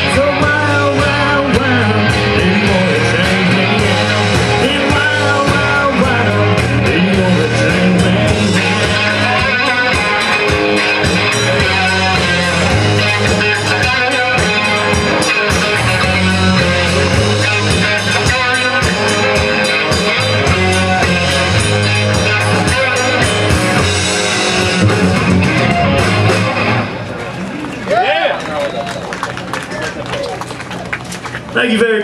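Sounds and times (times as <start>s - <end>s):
electric guitars: 0.0s - 31.6s
bass guitar: 0.0s - 31.9s.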